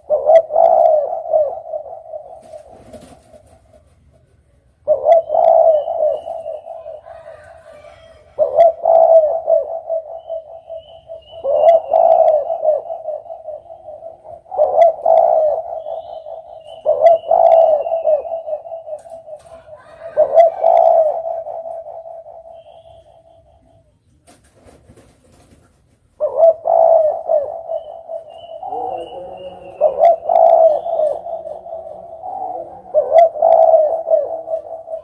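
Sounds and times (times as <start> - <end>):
dove cooing: 0.0 - 3.9, 4.8 - 23.9, 26.1 - 35.0.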